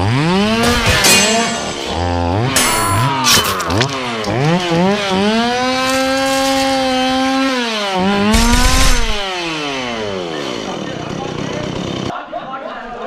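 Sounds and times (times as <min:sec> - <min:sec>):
chainsaw engine revving: 0:00.0 - 0:12.1.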